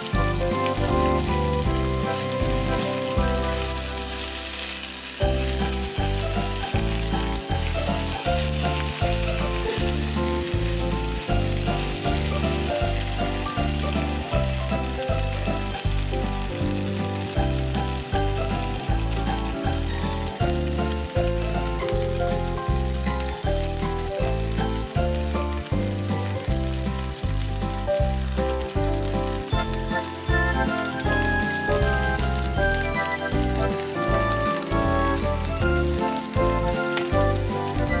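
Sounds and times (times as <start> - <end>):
background music with a beat: 0.0 - 4.5, 5.2 - 38.0
food sizzling in a frying pan: 0.0 - 38.0.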